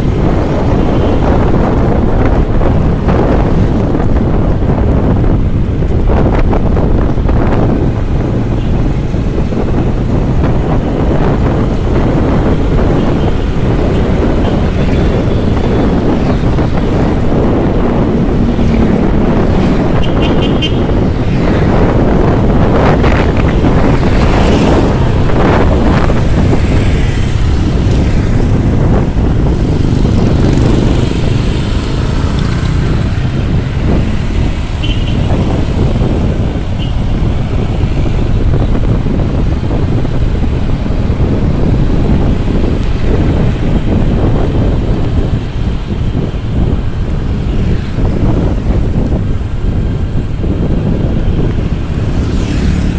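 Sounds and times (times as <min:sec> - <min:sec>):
road traffic: 0:00.0 - 0:52.9
wind on microphone: 0:00.0 - 0:52.9.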